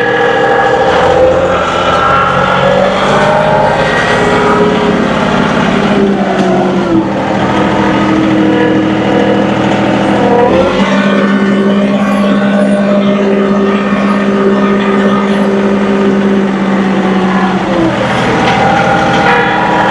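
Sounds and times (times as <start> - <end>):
tractor diesel engine under load: 0.0 - 19.9.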